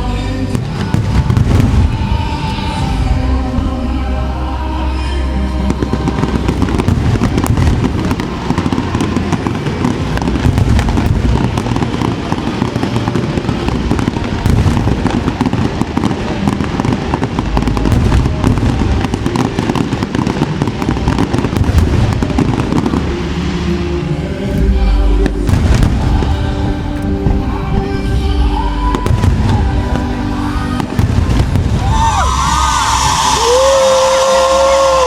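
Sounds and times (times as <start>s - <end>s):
fireworks crackling and popping: 0.0s - 3.2s, 5.6s - 35.0s
music: 0.0s - 35.0s
fireworks booms: 0.5s - 3.2s, 5.7s - 23.6s, 24.5s - 35.0s.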